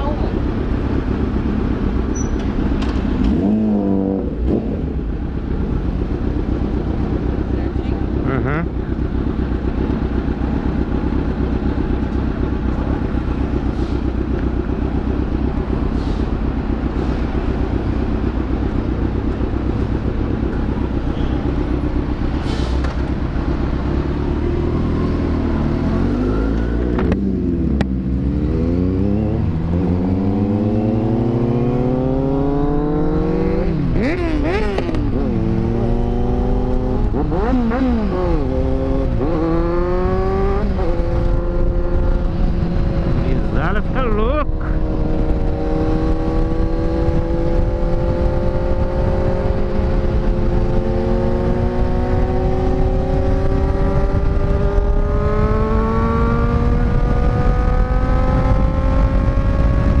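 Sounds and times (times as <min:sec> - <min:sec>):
motorcycle engine accelerating: 0:00.0 - 1:00.0.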